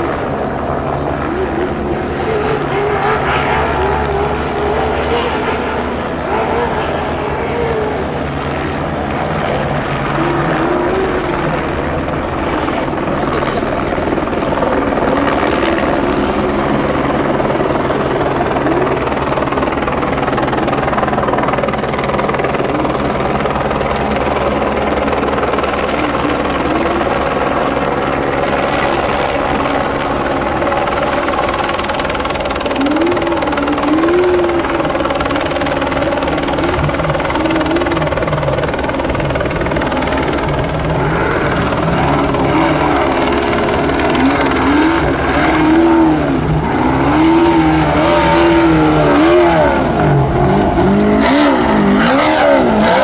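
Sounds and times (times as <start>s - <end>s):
helicopter drone: 0.0s - 53.0s.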